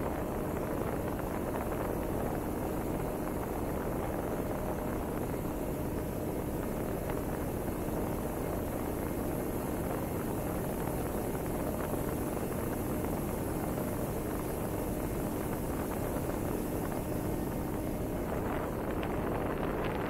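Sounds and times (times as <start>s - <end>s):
faint steady hum: 0.0s - 20.0s
wind noise rushing: 0.0s - 20.0s.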